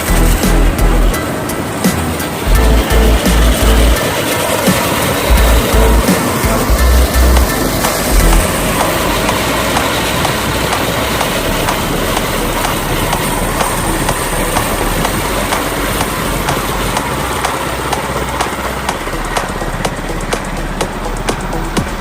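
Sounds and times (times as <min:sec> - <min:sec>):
go-kart engine running: 0:00.0 - 0:22.0.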